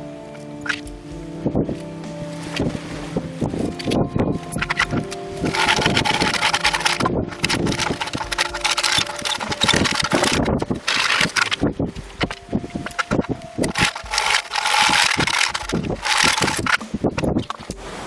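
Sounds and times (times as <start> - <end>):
saw cutting wood: 2.0 - 17.3.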